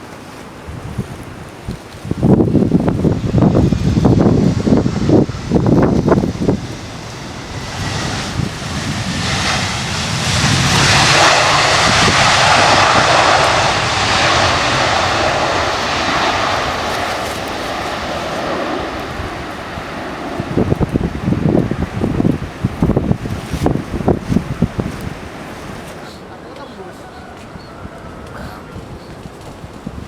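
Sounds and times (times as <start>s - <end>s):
wind gusts on microphone: 0.0s - 26.4s, 27.0s - 30.0s
airliner engines passing by: 0.0s - 30.0s.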